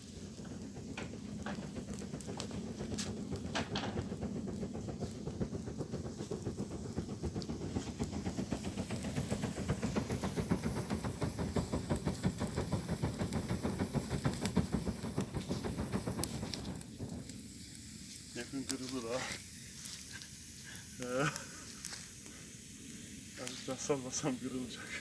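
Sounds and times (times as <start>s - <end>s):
hand fan whooshing: 0.0s - 22.6s
fire hissing: 0.0s - 25.0s.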